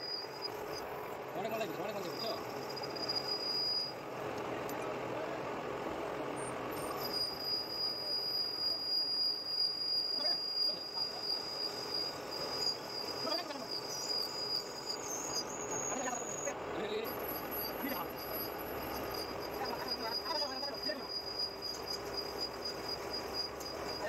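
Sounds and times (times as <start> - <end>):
metal lathe machining: 0.0 - 4.1, 5.7 - 24.0
high whine: 0.0 - 5.4, 6.3 - 24.0.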